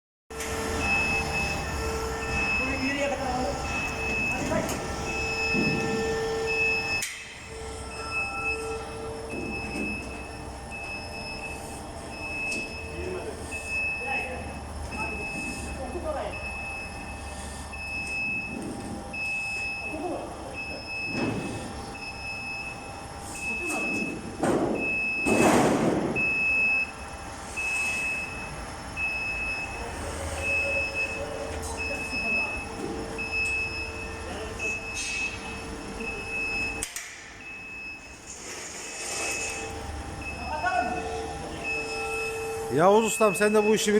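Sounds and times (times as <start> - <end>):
workshop machinery whining: 0.3 - 43.9
electronic warning beeper: 0.4 - 43.9.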